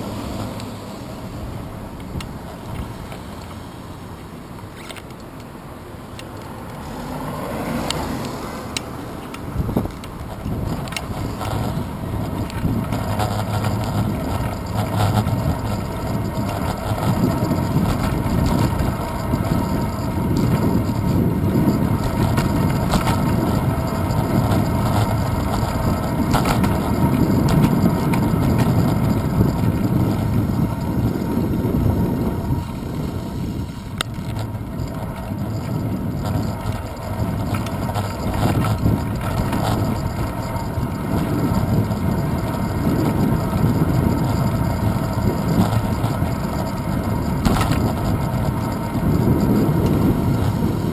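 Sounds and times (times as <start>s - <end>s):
bicycle road vibration: 0.0s - 50.9s
wind rumble: 6.5s - 50.9s.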